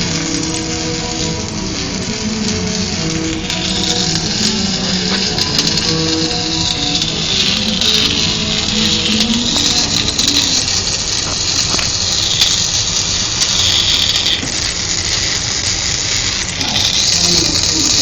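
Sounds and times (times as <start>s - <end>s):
welding arc hissing: 0.0s - 18.0s.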